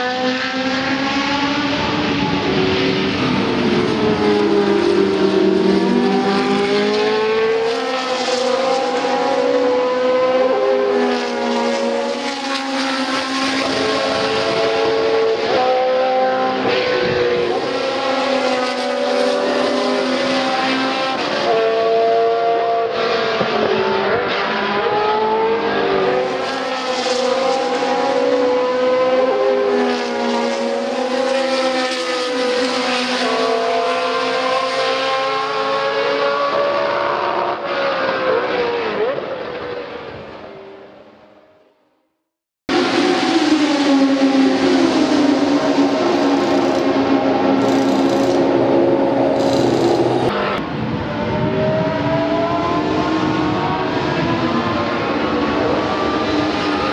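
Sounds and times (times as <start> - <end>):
racing car engines accelerating: 0.0 - 41.4, 42.7 - 56.9.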